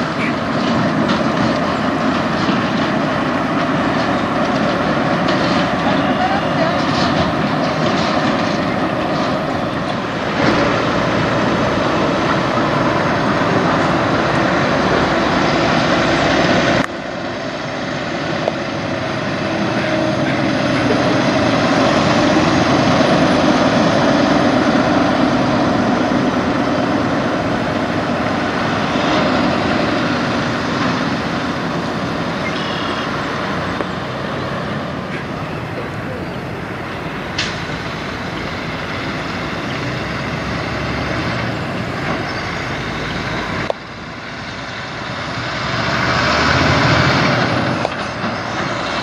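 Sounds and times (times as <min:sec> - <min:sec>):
diesel truck engines droning: 0:00.0 - 0:49.0.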